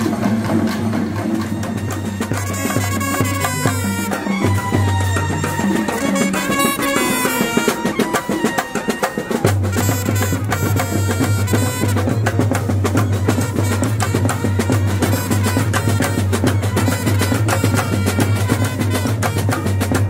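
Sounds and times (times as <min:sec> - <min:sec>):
fast dense drumming: 0:00.0 - 0:20.0
wind instruments playing melody: 0:00.0 - 0:20.0.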